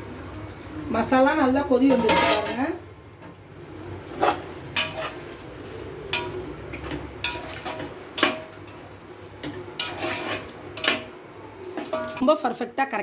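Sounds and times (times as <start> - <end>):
metal spoon stirring in a pot: 1.8 - 12.2.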